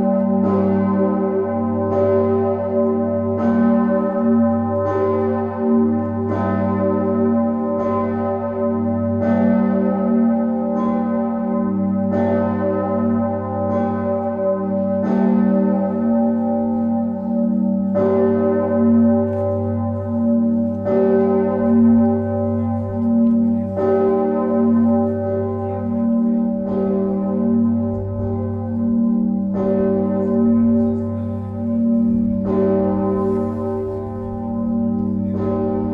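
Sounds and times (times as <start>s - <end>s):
church bell ringing: 0.0s - 35.9s.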